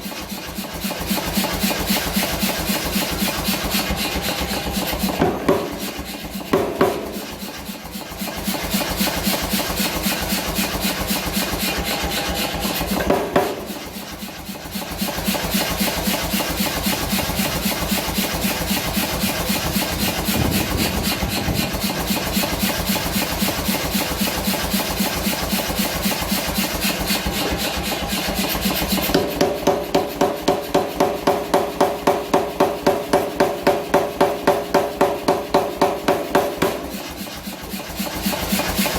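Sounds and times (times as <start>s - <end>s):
power hammer forging steel: 0.0s - 38.9s.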